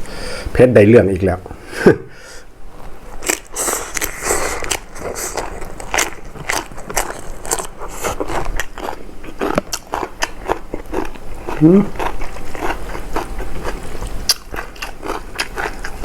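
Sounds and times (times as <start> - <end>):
person chewing crunchy food: 2.8 - 16.0.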